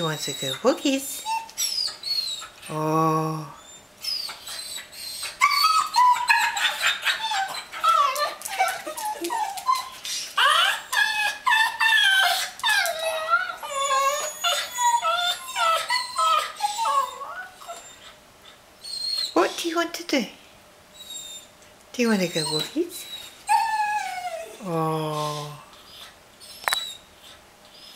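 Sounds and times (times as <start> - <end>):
dog whining and yowling: 0.0 - 2.8, 3.4 - 19.6, 20.9 - 21.6, 22.2 - 27.9.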